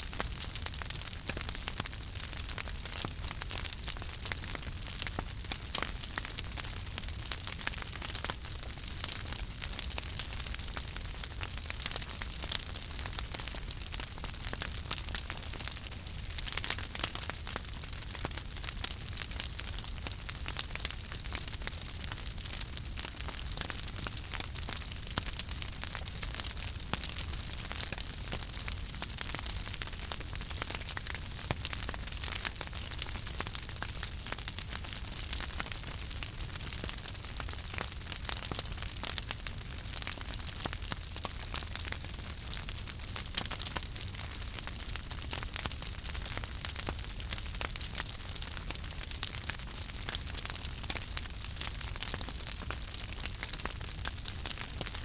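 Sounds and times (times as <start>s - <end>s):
low rumble of flames: 0.1s - 55.0s
wood fire crackling: 0.1s - 55.0s.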